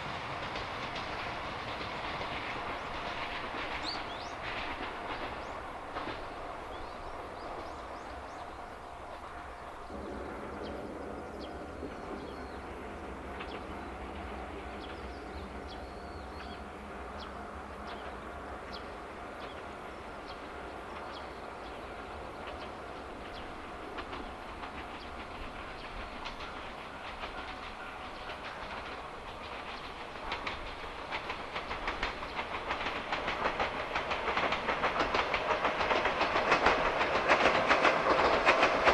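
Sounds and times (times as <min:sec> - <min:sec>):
electric train rumbling: 0:00.0 - 0:38.9
train wheels clicking: 0:00.0 - 0:38.9.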